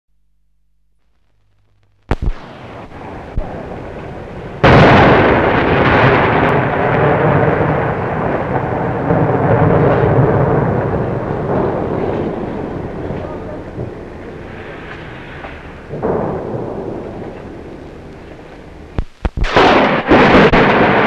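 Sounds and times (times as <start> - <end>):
explosion blast with rumble: 2.1 - 21.0
sharp bangs: 2.1 - 21.0.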